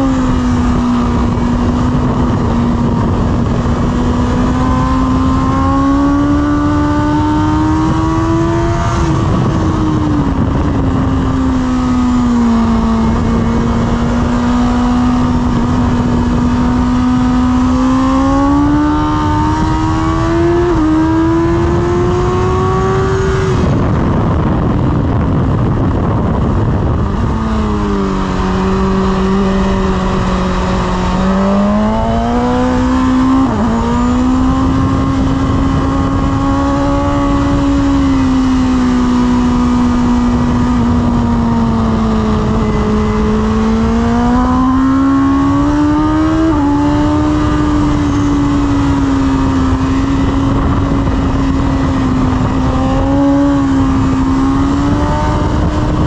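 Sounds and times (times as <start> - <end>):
motorcycle engine revving: 0.0 - 56.0
wind rush: 0.0 - 56.0.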